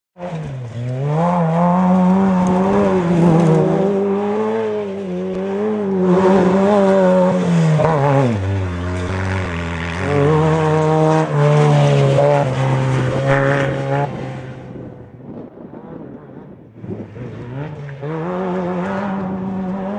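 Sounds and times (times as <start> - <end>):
race buggy engine revving: 0.2 - 15.2, 15.8 - 19.9.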